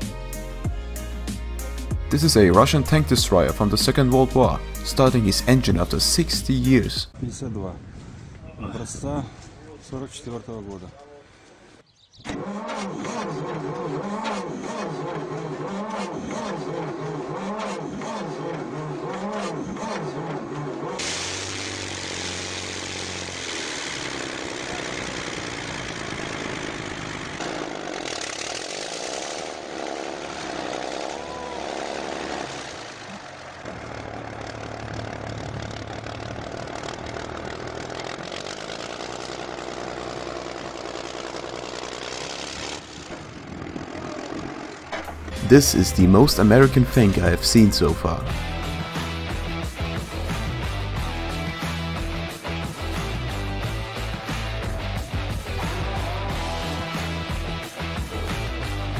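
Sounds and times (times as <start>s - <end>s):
diesel engine starting and running: 0.0s - 7.2s, 12.2s - 58.9s.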